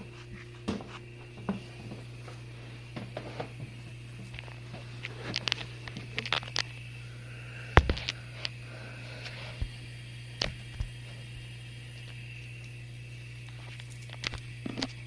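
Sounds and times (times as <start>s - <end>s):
dishwasher motor hum: 0.0s - 15.0s.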